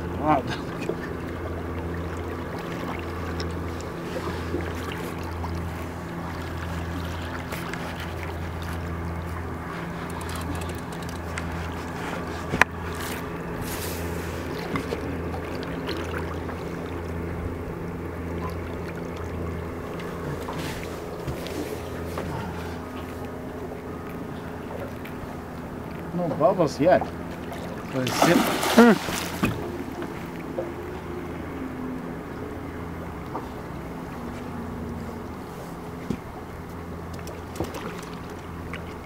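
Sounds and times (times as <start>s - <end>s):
boat motor running: 0.0s - 39.0s.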